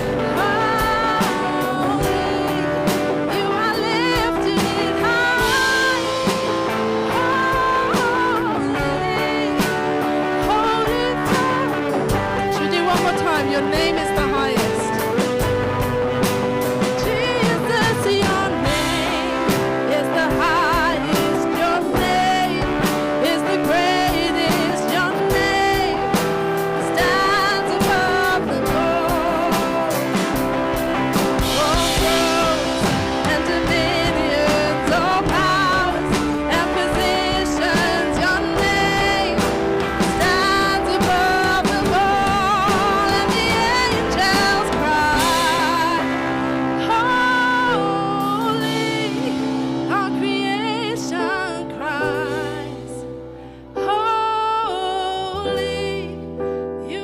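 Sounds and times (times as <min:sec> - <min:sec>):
drums: 0:00.0 - 0:57.0
guitar: 0:00.0 - 0:57.0
person singing: 0:00.0 - 0:57.0.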